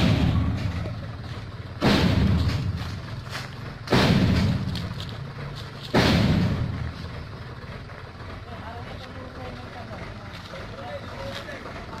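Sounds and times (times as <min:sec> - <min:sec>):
truck loud bursts: 0:00.0 - 0:12.0.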